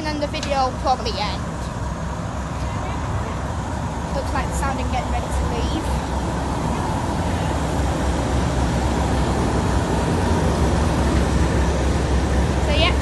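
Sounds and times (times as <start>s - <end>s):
diesel locomotive engine idling: 0.0s - 13.0s.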